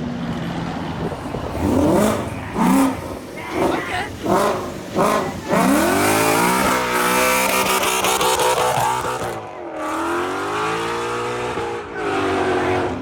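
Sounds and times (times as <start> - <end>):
car engine revving: 0.4 - 13.0.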